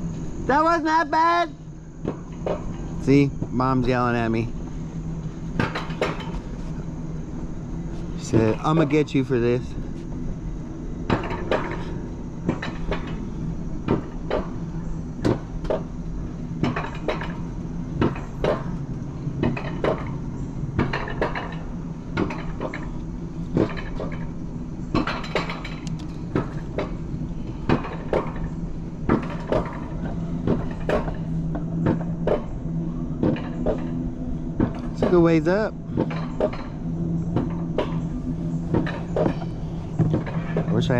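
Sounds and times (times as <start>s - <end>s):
low mechanical hum: 0.0s - 40.9s
sled clacking and rattling on track: 0.0s - 40.9s.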